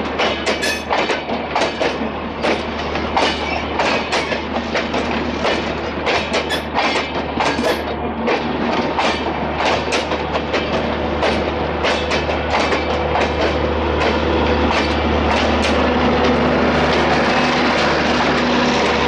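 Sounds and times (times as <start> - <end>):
low train rumble: 0.0 - 19.0
train wheels clattering over rail joints: 0.0 - 19.0.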